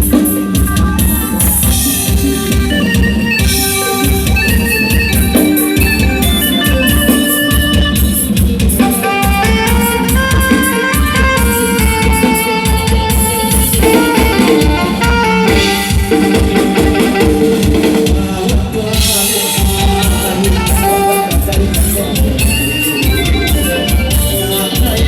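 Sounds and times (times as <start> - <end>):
electronic keyboard melody: 0.0 - 25.0
heavy drum beat: 0.0 - 25.0.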